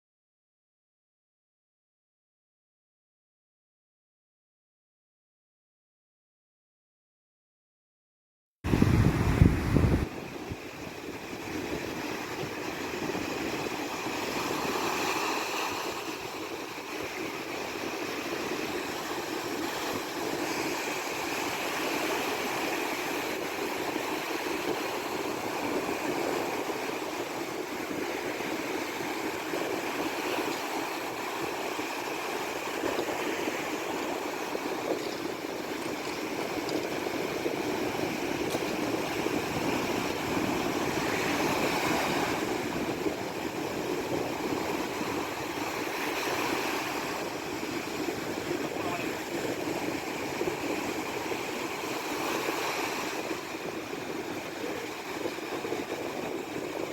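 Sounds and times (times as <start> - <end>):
heavy wind: 8.7 - 56.9
waves washing around a sailboat: 8.7 - 56.9.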